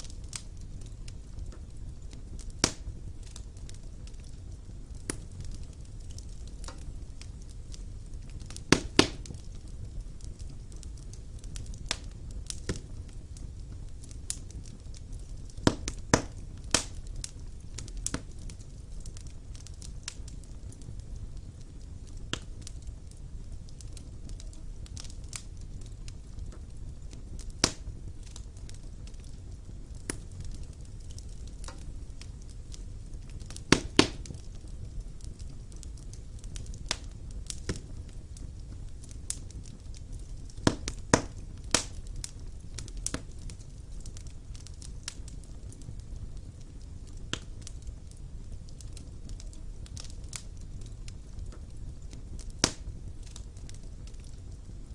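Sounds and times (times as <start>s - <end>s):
low rumble of flame: 0.0s - 54.9s
wood fire crackling and popping: 0.0s - 54.9s.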